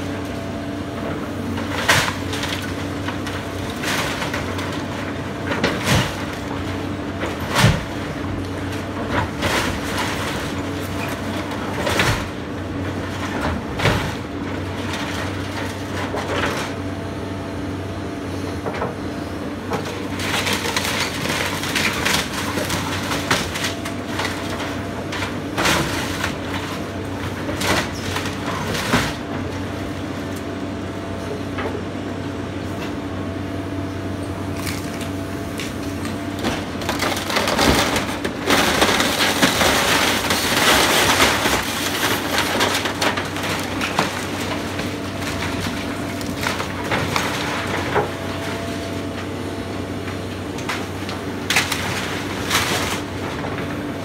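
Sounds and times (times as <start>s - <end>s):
excavator diesel engine running: 0.0s - 54.0s
falling debris crashing: 1.5s - 16.7s, 19.7s - 29.9s, 34.5s - 53.9s.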